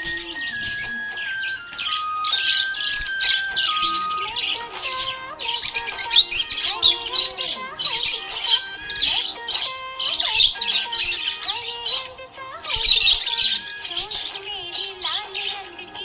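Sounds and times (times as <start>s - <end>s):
budgerigar chirping and warbling: 0.0s - 16.0s.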